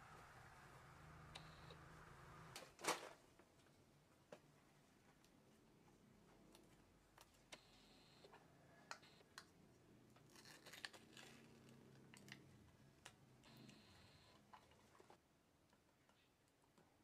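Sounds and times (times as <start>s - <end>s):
faint clicks and handling noises: 2.5s - 17.0s.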